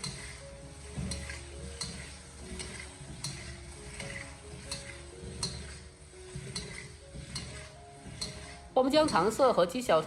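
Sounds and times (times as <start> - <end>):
chicken sizzling in a wok: 0.0 - 9.2
spatula scraping a pan: 0.0 - 10.0.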